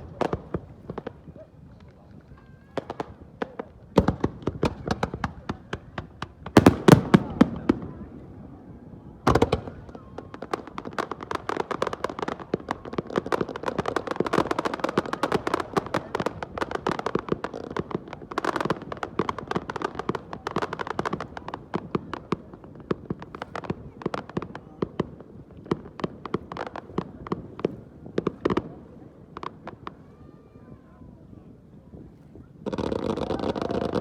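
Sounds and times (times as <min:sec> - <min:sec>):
fireworks bangs and pops: 0:00.0 - 0:34.0.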